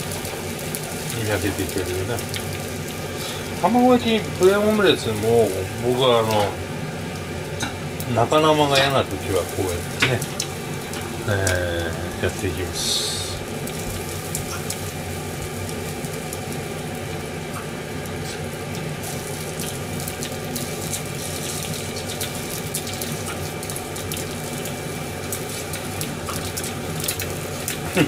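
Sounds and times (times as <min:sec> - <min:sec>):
food sizzling in a frying pan: 0:00.0 - 0:28.0.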